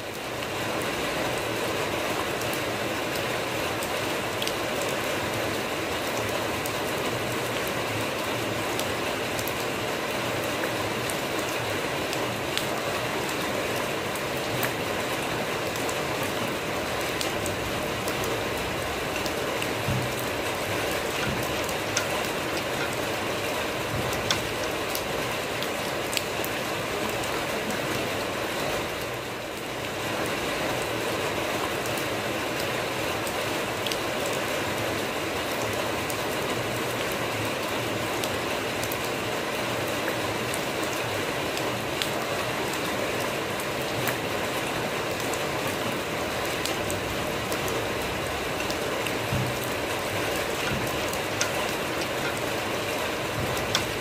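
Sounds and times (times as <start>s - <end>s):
steady rain on muddy ground: 0.0s - 54.0s.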